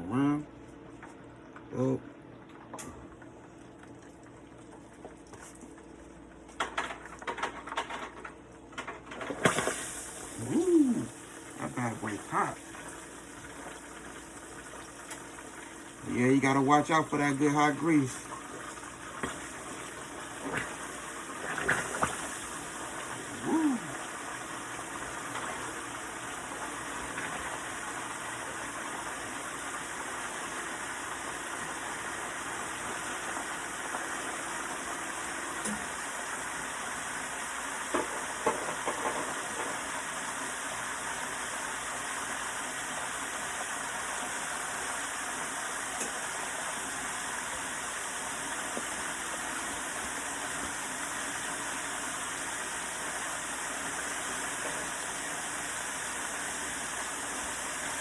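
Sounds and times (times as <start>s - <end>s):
wings deep-frying sizzle: 4.2s - 58.0s.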